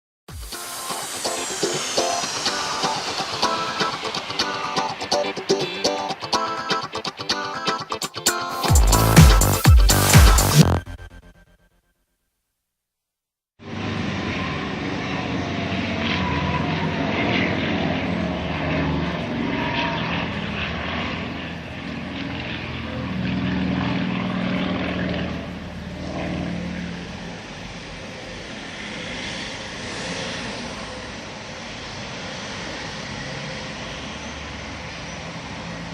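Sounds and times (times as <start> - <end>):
propeller planes droning overhead: 0.5 - 8.6, 13.6 - 35.9.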